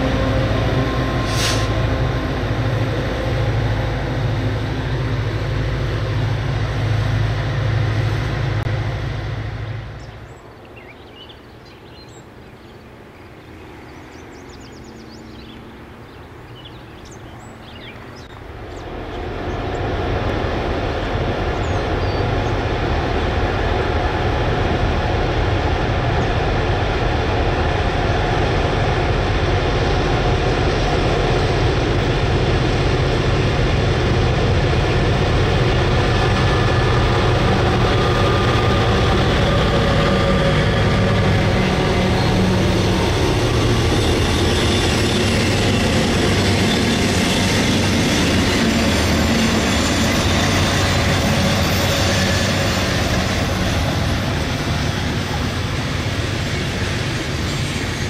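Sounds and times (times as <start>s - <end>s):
diesel locomotive engines droning: 0.0s - 58.0s
train wheels rumbling on rails: 0.0s - 58.0s.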